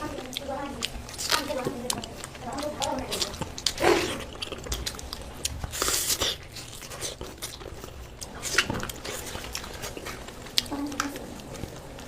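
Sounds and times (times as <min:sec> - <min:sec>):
chewing and crunching food: 0:00.0 - 0:12.0.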